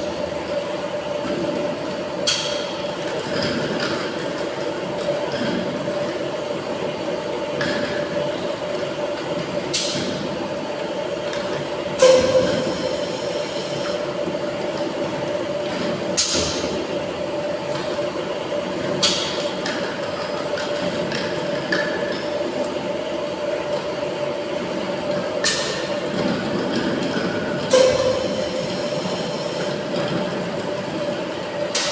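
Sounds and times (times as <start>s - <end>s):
machine humming: 0.0s - 31.9s.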